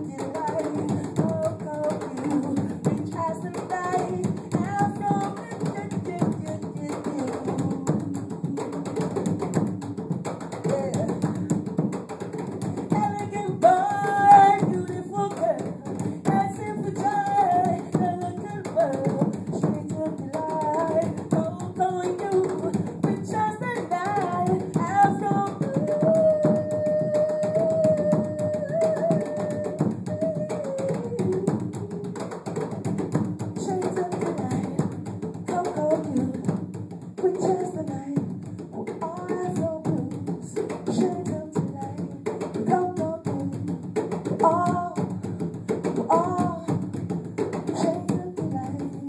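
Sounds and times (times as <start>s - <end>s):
hand drums playing: 0.0s - 49.0s
woman singing: 0.0s - 49.0s.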